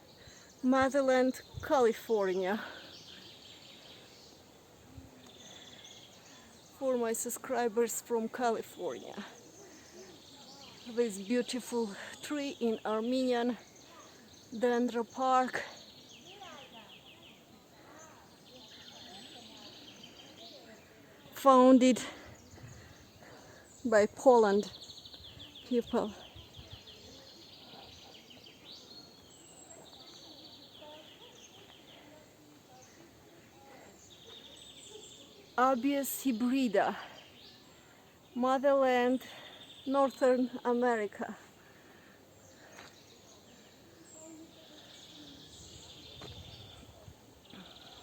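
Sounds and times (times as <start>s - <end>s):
faint outdoor ambience: 0.0s - 48.0s
small birds chirping: 0.0s - 48.0s.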